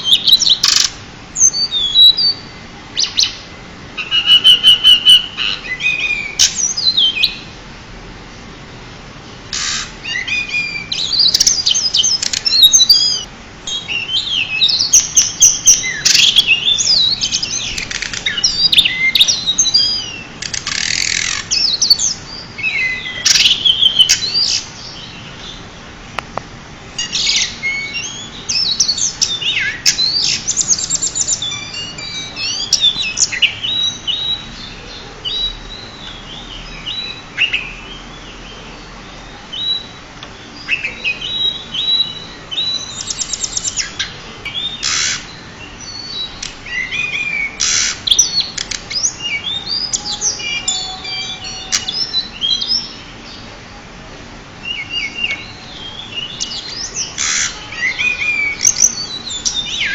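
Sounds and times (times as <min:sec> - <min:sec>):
bird singing chirps and trills: 0:00.0 - 0:07.6, 0:09.4 - 0:26.2, 0:26.8 - 0:53.7, 0:54.5 - 0:59.9.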